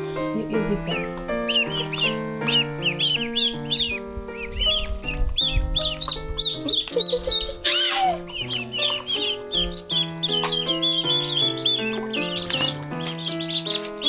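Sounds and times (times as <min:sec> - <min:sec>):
background music with held notes: 0:00.0 - 0:14.0
ducklings peeping: 0:00.1 - 0:14.0.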